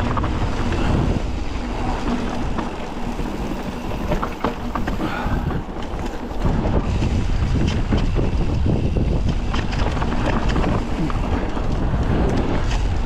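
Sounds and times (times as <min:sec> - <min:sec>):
bike clicks and rattles: 0:00.0 - 0:13.0
tyres rumbling on dirt: 0:00.0 - 0:13.0
wind rushing over microphone: 0:00.0 - 0:13.0.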